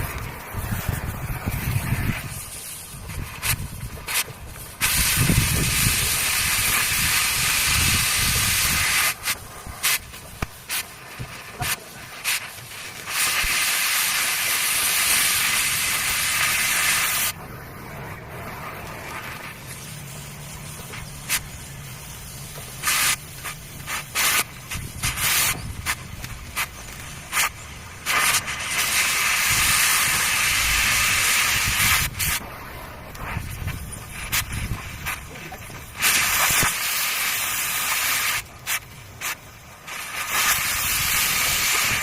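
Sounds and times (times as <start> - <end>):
steady hissing: 0.0 - 42.0.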